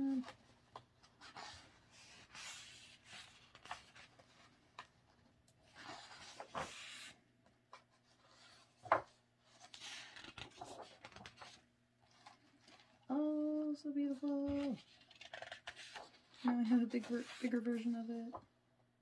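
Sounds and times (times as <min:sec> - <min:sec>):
pages turning with paper rustling: 0:00.0 - 0:13.1, 0:14.0 - 0:18.4.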